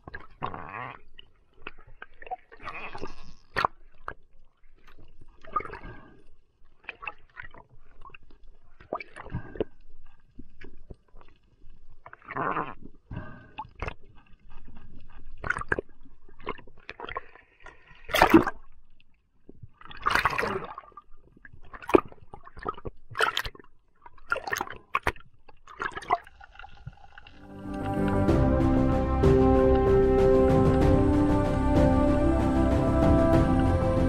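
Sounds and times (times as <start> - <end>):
muffled underwater water splashing: 0.0 - 34.0.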